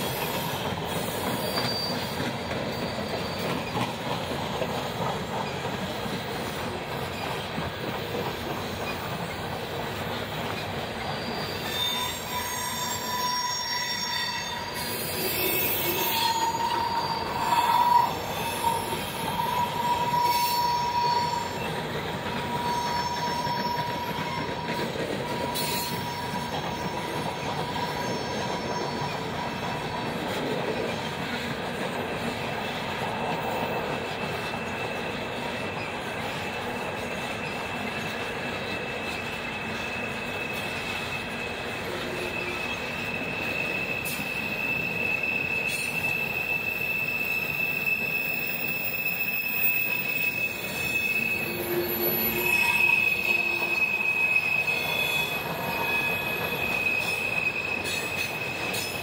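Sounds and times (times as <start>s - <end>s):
freight cars rolling on rails: 0.0s - 59.0s
train wheels squealing: 0.0s - 59.0s.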